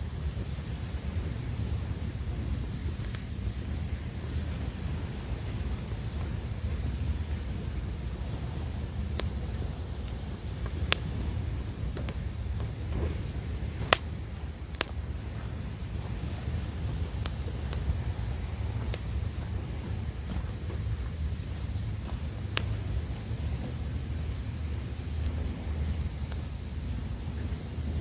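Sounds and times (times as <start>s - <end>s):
campfire crackling: 0.0s - 28.0s
fire popping: 0.0s - 28.0s
low rumble of waves: 0.0s - 28.0s.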